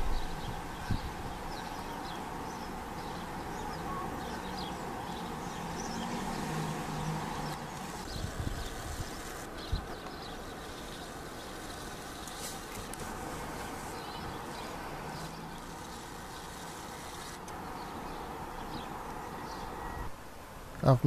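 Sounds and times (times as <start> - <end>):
faint high bird chirps: 0.0 - 12.5, 13.6 - 20.1
outdoor background rumble: 0.0 - 21.0.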